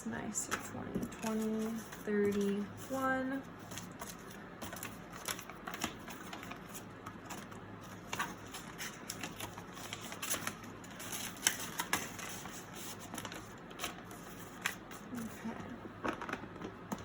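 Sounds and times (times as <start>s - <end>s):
paper banknotes and envelopes rustling: 0.3s - 17.0s.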